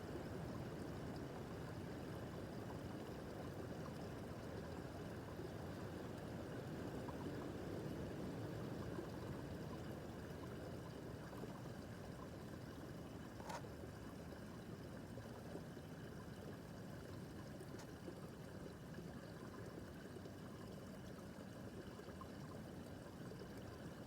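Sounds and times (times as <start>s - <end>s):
stream running: 0.0s - 24.0s.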